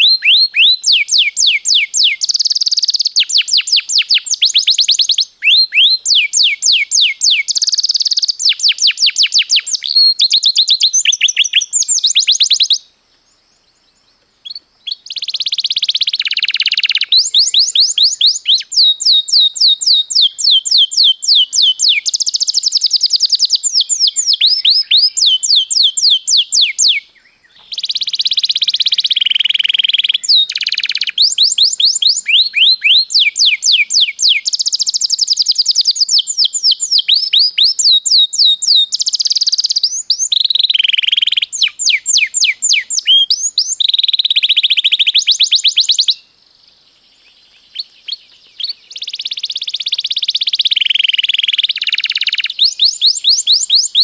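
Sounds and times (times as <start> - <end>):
canary singing trills: 0.0 - 12.9, 13.8 - 46.3, 47.2 - 54.0.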